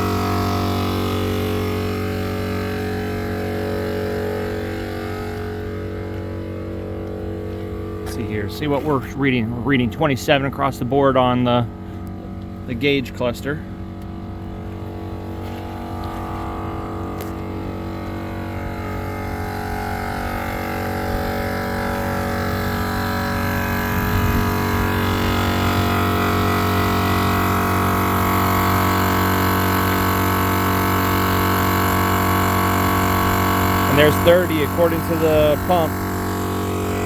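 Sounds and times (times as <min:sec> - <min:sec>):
air compressor humming: 0:00.0 - 0:37.0.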